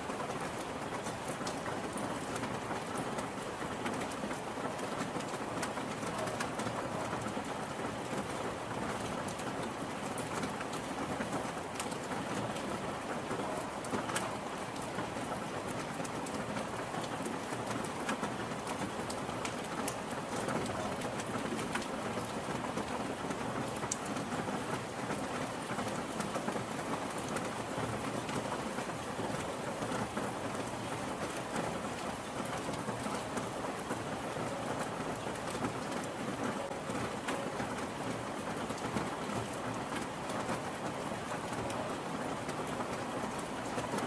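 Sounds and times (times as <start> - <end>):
rain drops tapping: 0.0 - 44.0.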